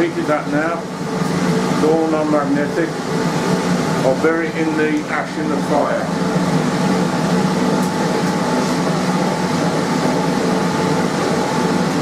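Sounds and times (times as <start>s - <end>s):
electric air blower hum: 0.0s - 12.0s.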